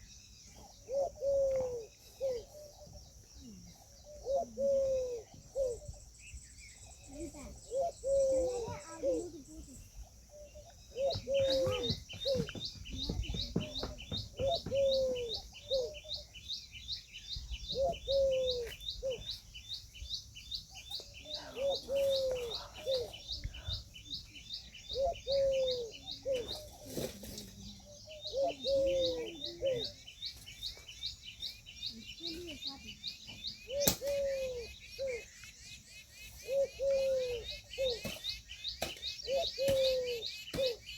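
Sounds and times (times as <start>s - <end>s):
peahen clucking: 7.1s - 16.4s, 17.4s - 40.9s.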